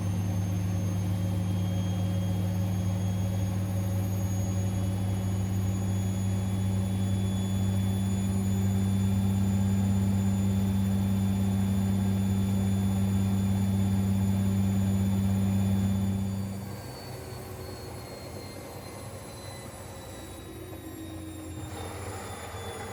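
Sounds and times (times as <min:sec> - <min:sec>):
washing machine humming: 0:00.0 - 0:22.9.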